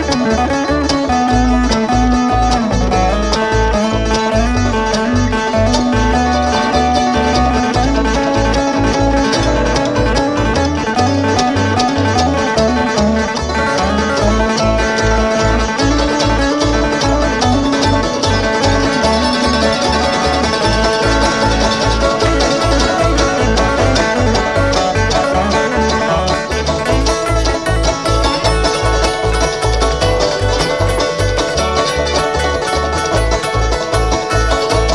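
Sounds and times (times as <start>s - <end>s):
banjo: 0.0s - 34.9s
bluegrass string band playing: 0.0s - 34.9s.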